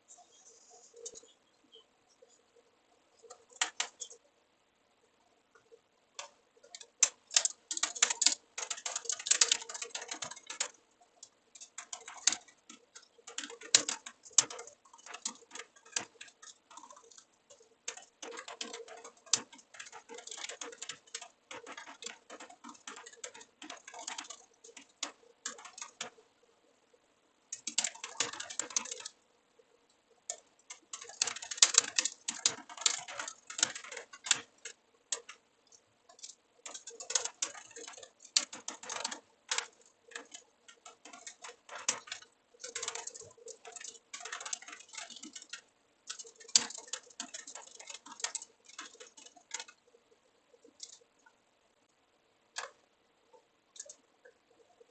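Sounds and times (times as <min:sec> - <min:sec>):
computer keyboard typing: 0:03.2 - 0:04.3, 0:05.6 - 0:26.5, 0:27.5 - 0:49.9, 0:50.6 - 0:51.3, 0:52.6 - 0:54.9.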